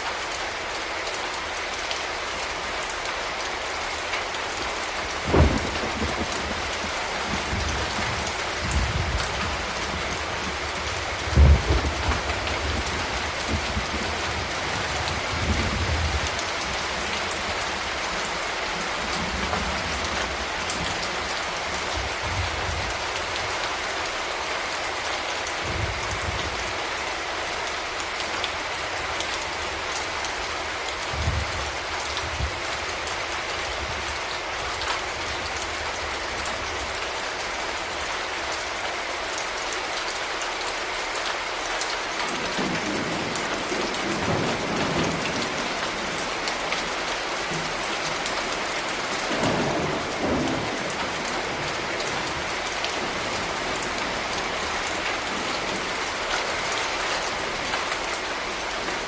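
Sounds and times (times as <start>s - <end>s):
rain hissing: 0.0s - 40.0s, 41.0s - 59.0s.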